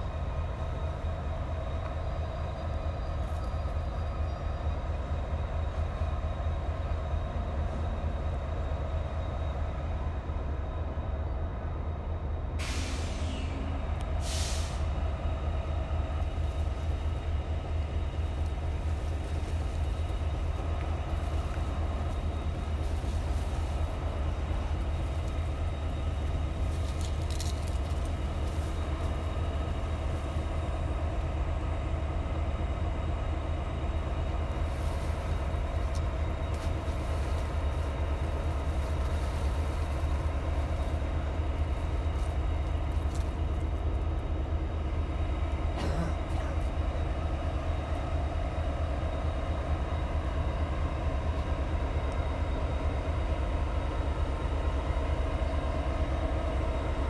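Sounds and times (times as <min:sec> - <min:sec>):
diesel locomotives idling: 0:00.0 - 0:57.0.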